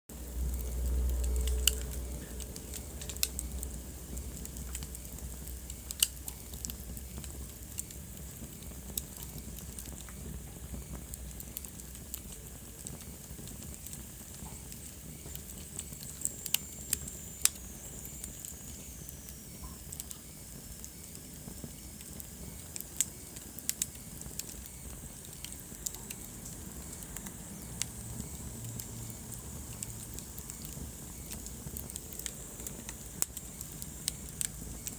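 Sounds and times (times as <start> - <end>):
low rumble of flame: 0.1 - 34.9
wood fire crackles and pops: 0.1 - 34.9.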